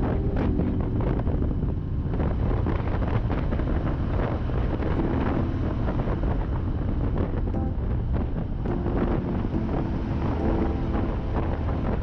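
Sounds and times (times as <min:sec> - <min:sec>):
motorcycle engine and road rumble: 0:00.0 - 0:12.0
wind buffeting microphone: 0:00.0 - 0:12.0.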